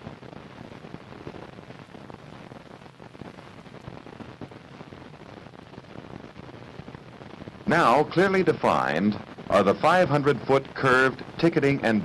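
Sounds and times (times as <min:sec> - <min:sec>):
crackling film soundtrack hiss: 0:00.0 - 0:12.0.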